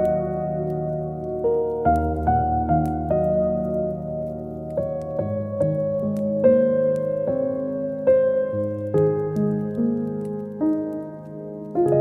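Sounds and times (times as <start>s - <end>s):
soft solo piano music: 0.0s - 12.0s.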